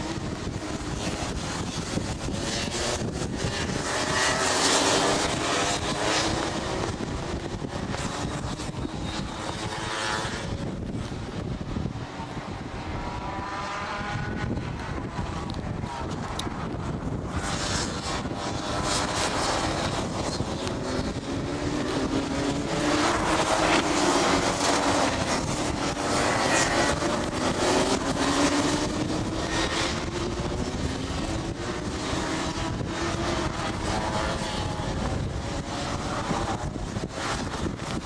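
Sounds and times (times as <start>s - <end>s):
racing kart engines whining: 0.0s - 38.0s.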